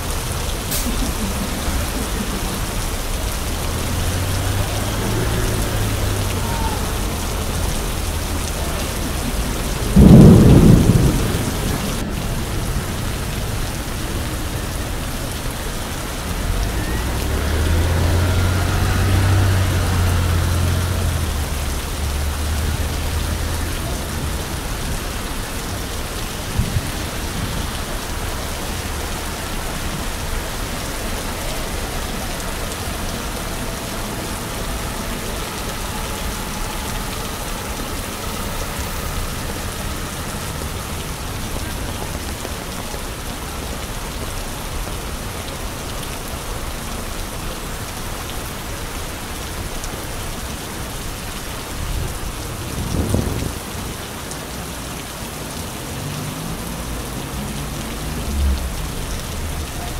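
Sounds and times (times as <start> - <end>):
passing traffic rumble: 0.0 - 59.9
rain falling on street: 0.0 - 59.9.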